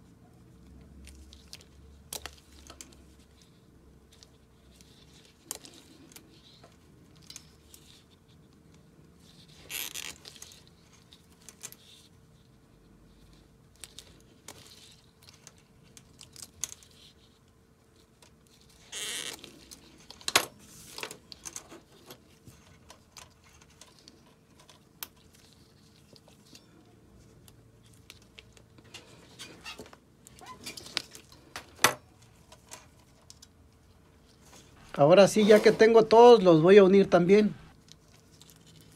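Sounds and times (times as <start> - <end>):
faint steady hum: 0.0 - 38.9
latex gloves rustling: 0.0 - 38.9.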